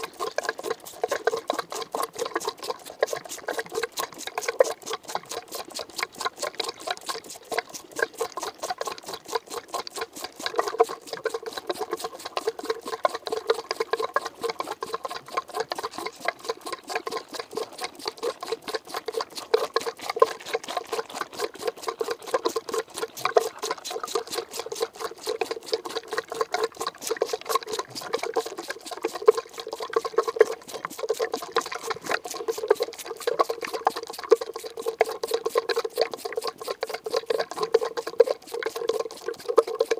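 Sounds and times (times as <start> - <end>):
goat sucking from bottle: 0.0 - 39.9.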